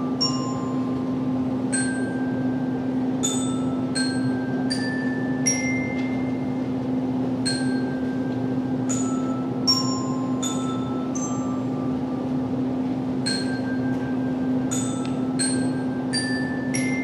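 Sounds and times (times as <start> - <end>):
handbells ringing a slow melody: 0.0 - 17.0
steady low hum: 0.0 - 17.0.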